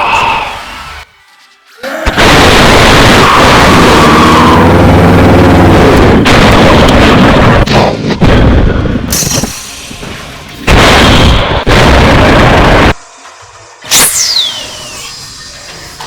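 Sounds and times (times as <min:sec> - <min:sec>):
mouth-made blasts and explosions: 0:01.9 - 0:16.0
mouth-made charging sound: 0:02.0 - 0:13.0, 0:13.8 - 0:16.0.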